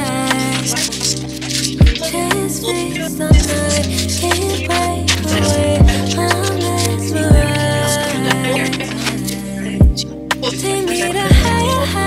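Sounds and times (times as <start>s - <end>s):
background music with sustained chords: 0.0s - 12.0s.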